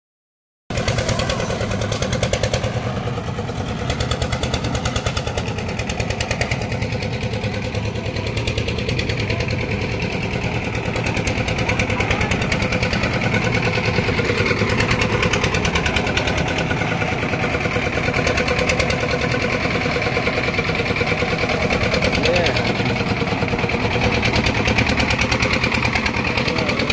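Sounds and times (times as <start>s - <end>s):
concrete mixer engine running: 0.7s - 26.9s.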